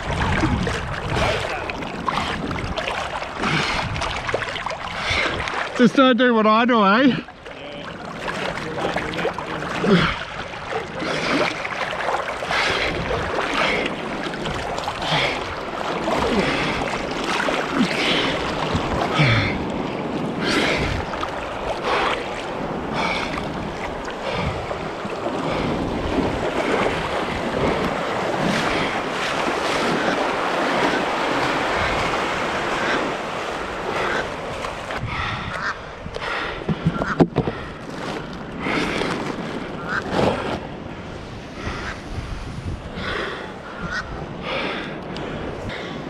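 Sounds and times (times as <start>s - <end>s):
wind buffeting microphone: 0.0s - 6.0s, 7.9s - 46.0s
seawater splashing and sloshing: 0.0s - 46.0s.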